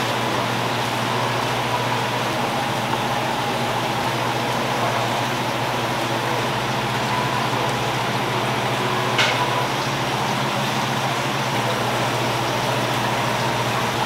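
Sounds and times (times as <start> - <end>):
room ventilation hum and hiss: 0.0 - 14.0.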